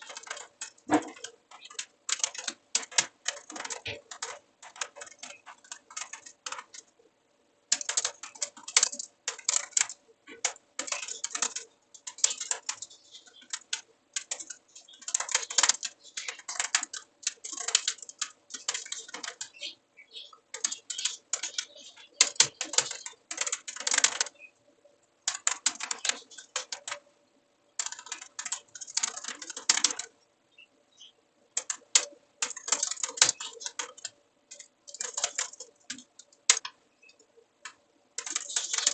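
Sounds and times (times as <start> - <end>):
typing on computer keyboard: 0.0 - 7.0, 7.7 - 24.4, 25.2 - 27.1, 27.8 - 30.2, 31.5 - 38.9
faint steady hum: 0.0 - 38.9.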